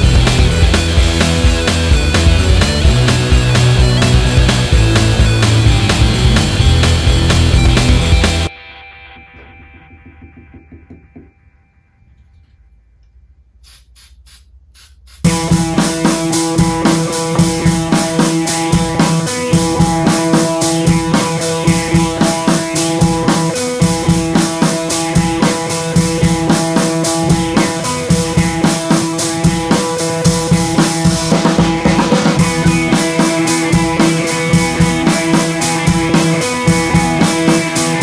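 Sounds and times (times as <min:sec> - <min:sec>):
drum-kit beat: 0:00.0 - 0:08.5, 0:13.6 - 0:38.0
sustained guitar-like tones: 0:00.0 - 0:12.5, 0:15.2 - 0:38.0.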